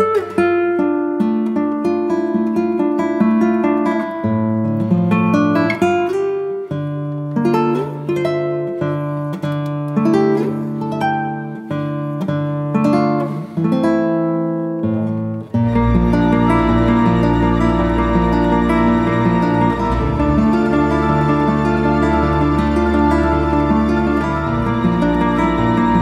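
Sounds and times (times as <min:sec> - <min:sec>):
acoustic guitar melody: 0:00.0 - 0:26.0.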